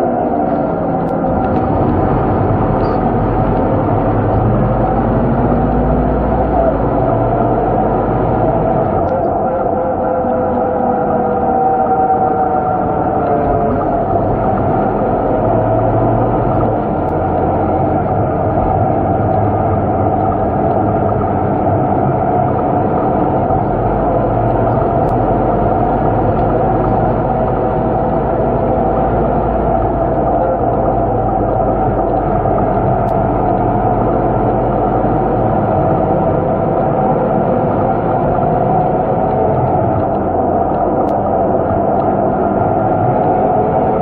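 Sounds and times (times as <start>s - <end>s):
bus diesel engine drone: 0.0s - 44.0s
steady whine: 0.0s - 44.0s.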